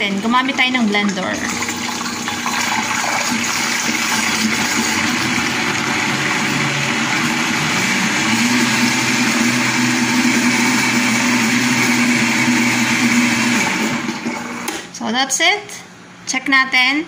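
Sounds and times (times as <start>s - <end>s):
blender motor whirring: 0.0s - 14.9s.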